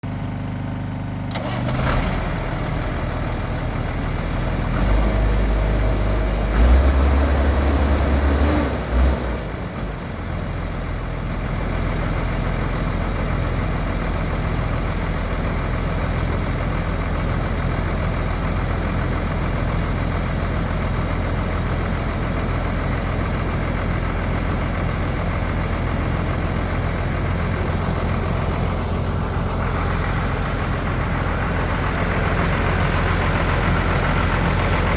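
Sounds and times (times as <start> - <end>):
diesel engine revving and idling: 1.3 - 34.9.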